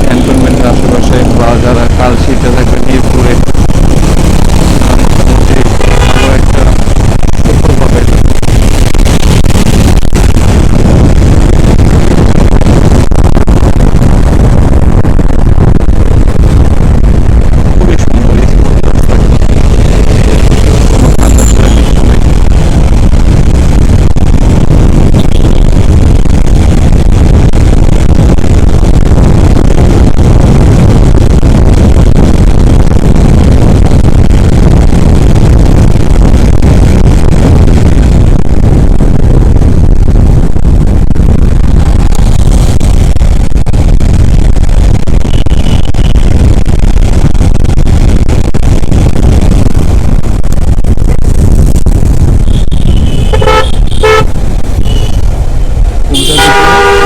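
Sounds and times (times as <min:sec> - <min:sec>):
motorcycle engine and road noise: 0:00.0 - 0:57.0
wind rushing over microphone: 0:00.0 - 0:57.0.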